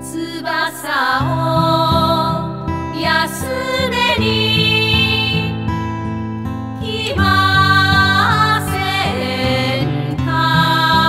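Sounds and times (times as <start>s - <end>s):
gentle song with guitar: 0.0s - 11.0s.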